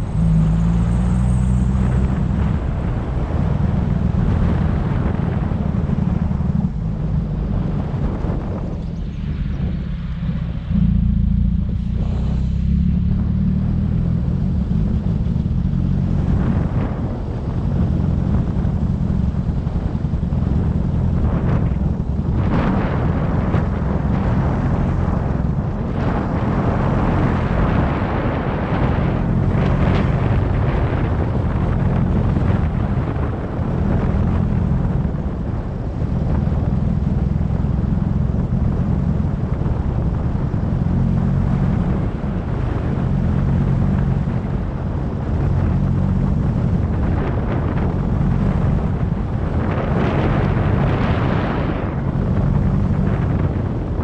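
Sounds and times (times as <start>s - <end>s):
car engine rumbling unevenly: 0.0s - 54.0s.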